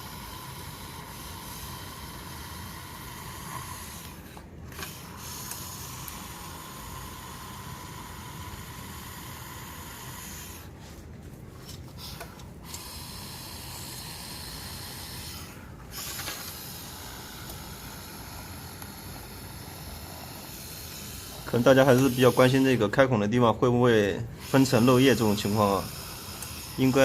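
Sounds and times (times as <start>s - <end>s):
steady hiss: 0.0s - 23.2s, 24.3s - 27.0s.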